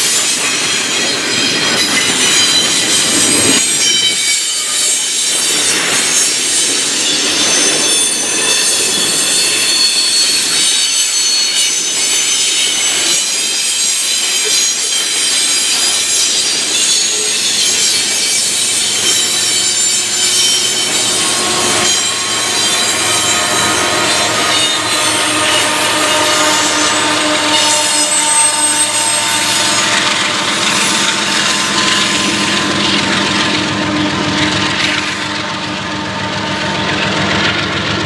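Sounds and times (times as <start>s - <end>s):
train wheels rumbling: 0.0s - 38.0s
train wheels squealing: 0.0s - 38.0s.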